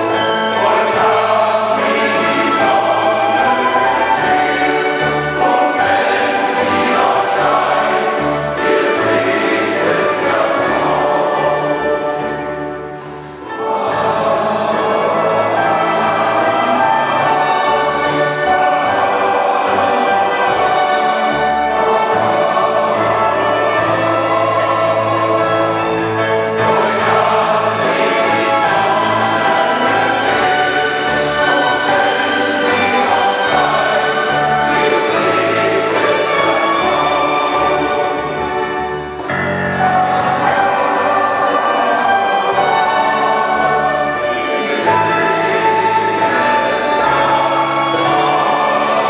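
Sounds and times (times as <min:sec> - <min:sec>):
male voice choir singing: 0:00.0 - 0:12.8, 0:13.4 - 0:49.0
strings flute and keyboard: 0:00.0 - 0:49.0.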